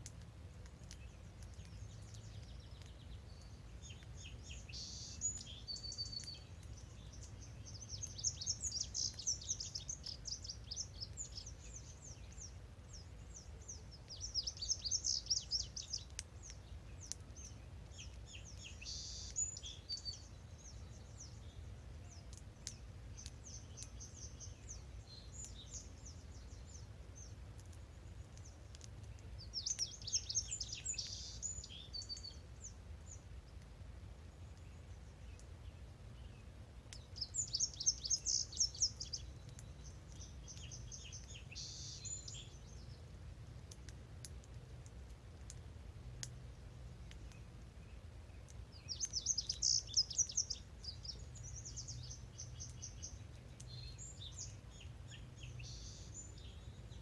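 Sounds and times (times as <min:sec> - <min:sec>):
low background rumble: 0:00.0 - 0:57.0
songbird singing: 0:00.0 - 0:57.0.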